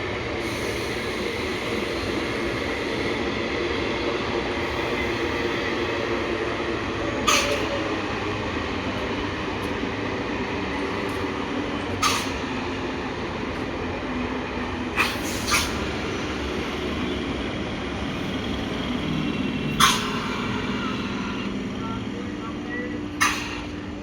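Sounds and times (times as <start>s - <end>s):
train clanks: 0.0s - 24.0s
train rumbling on track: 0.0s - 24.0s.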